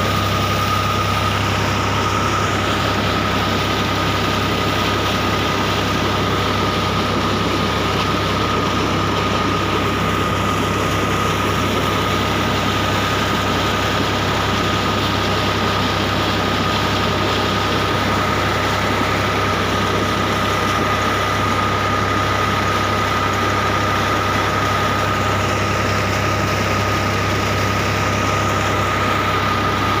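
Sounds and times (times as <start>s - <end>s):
pump high whine: 0.0s - 30.0s
tractor engine running: 0.0s - 30.0s
water gushing and splashing: 0.0s - 30.0s.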